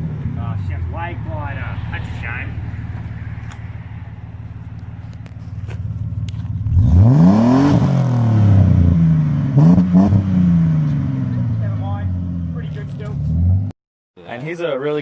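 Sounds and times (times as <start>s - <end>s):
car engine idling and revving: 0.0s - 13.7s.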